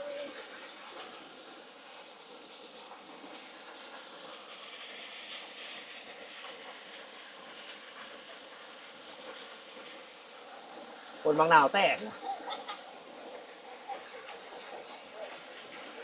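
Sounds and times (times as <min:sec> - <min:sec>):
waterfall over rocks: 0:00.0 - 0:16.0.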